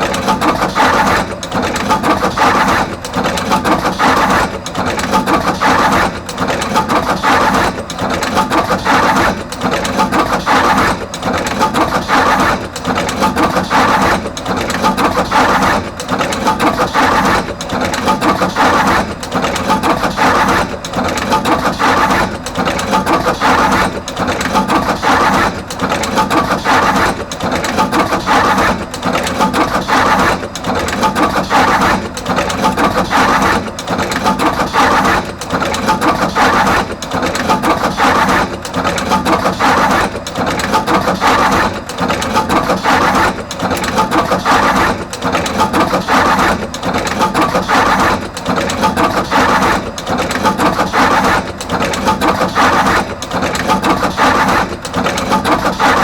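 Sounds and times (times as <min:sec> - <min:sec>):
wire crimping machine clattering: 0:00.0 - 0:56.0.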